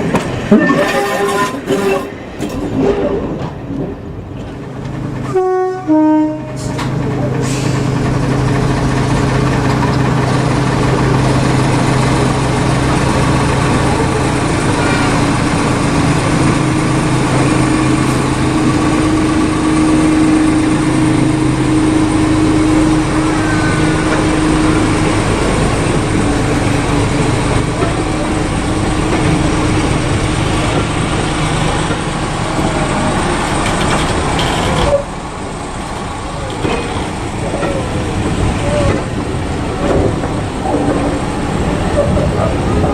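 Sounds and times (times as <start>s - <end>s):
diesel train engine humming: 0.0s - 42.9s.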